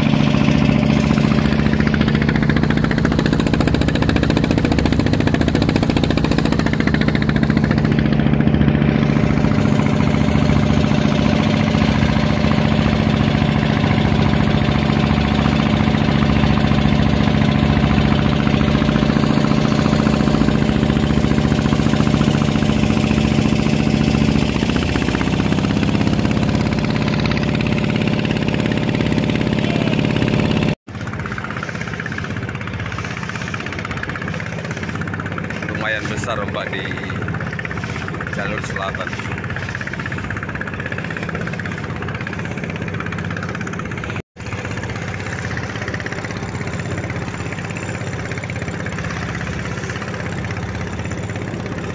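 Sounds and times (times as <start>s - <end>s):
boat engine running: 0.0s - 51.9s
water rushing along hull: 0.0s - 51.9s.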